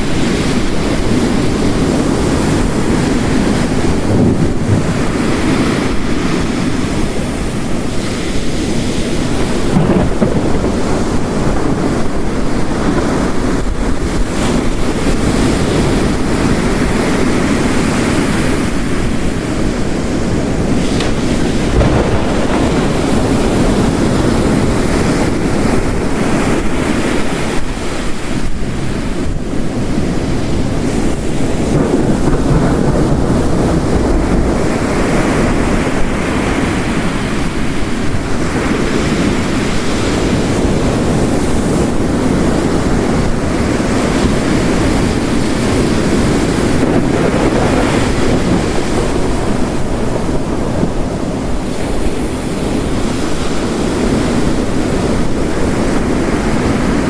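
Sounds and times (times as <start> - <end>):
waves crashing on rocks: 0.0 - 57.0.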